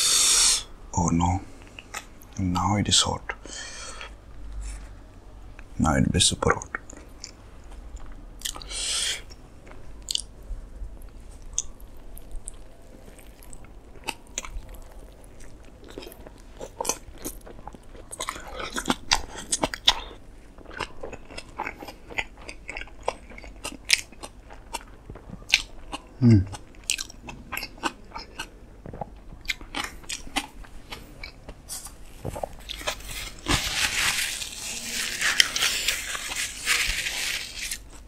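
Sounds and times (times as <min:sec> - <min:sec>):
wet chewing of food: 0:06.9 - 0:10.3, 0:11.0 - 0:38.0.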